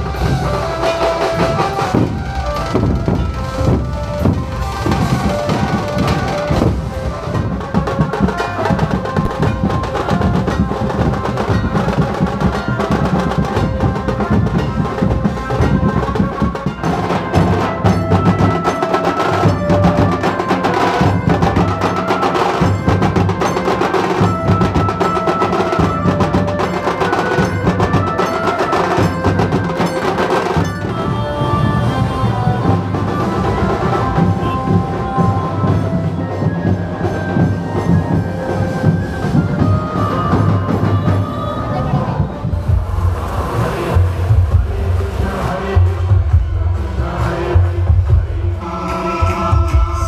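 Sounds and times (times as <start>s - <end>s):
dhol drums beaten in unison: 0.0s - 50.0s
held tune over drumming: 0.0s - 50.0s.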